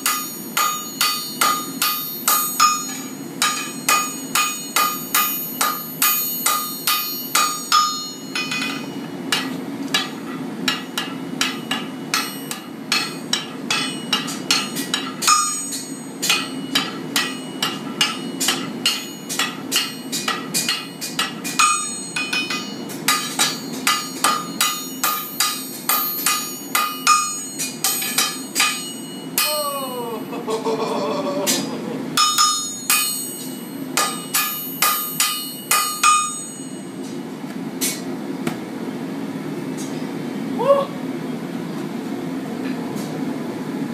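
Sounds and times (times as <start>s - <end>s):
hammer clanging on anvil: 0.0s - 30.0s, 31.5s - 37.1s
steady low hum: 0.0s - 43.9s.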